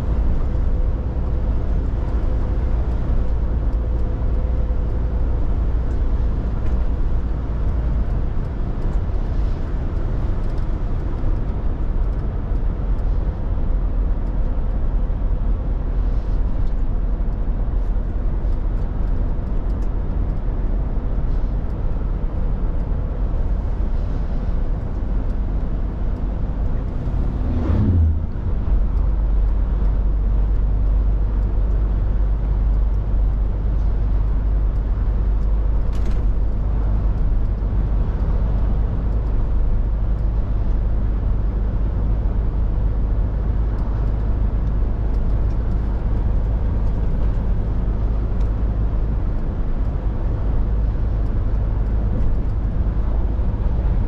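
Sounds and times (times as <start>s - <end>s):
lorry diesel engine rumble: 0.0s - 54.0s
road noise: 0.0s - 54.0s.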